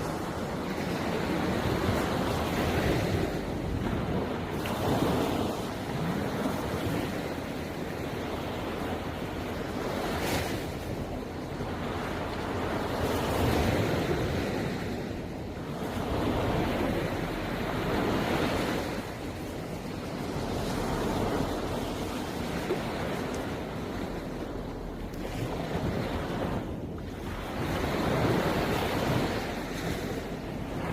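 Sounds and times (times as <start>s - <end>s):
sea waves breaking on shore: 0.0s - 30.9s
wind rumbling on microphone: 0.0s - 30.9s.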